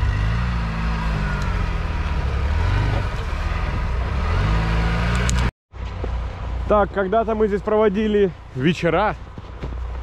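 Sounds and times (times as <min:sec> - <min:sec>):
off-road vehicle engine: 0:00.0 - 0:10.0.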